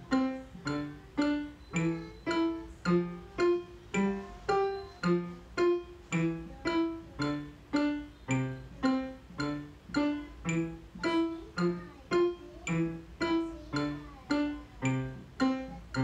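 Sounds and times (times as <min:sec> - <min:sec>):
digital piano playing: 0:00.0 - 0:16.0.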